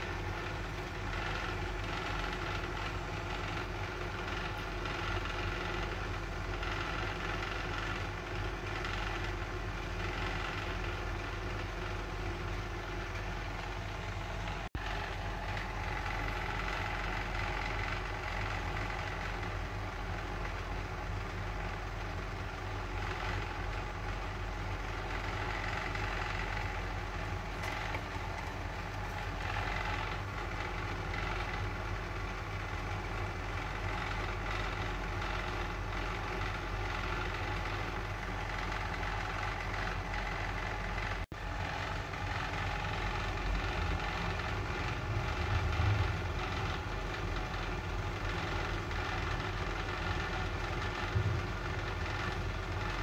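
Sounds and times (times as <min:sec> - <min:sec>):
steady mechanical drone: 0:00.0 - 0:53.0.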